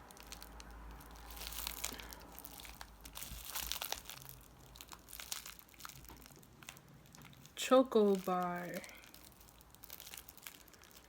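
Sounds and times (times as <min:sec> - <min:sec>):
candy packaging crinkling: 0:00.0 - 0:11.0.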